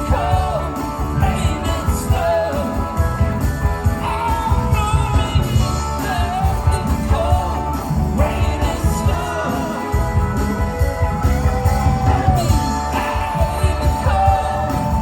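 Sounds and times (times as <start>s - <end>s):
lead vocal singing: 0.0s - 15.0s
rock band playing: 0.0s - 15.0s.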